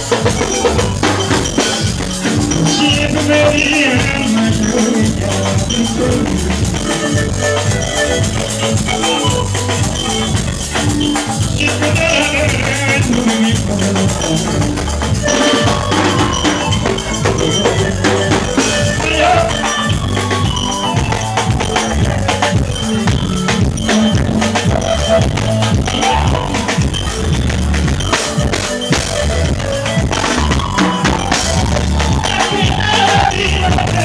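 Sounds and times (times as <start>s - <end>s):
bass and drum beat: 0.0s - 34.0s
electronic keyboards: 0.0s - 34.0s
live dance band music: 0.0s - 34.0s
shaker-like percussion: 0.0s - 34.0s.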